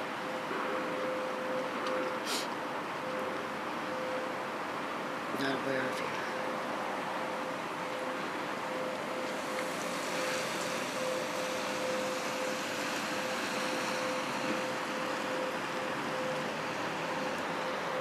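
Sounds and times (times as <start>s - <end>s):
constant mid-pitched tone: 0.0s - 18.0s
steady rushing drone: 0.0s - 18.0s.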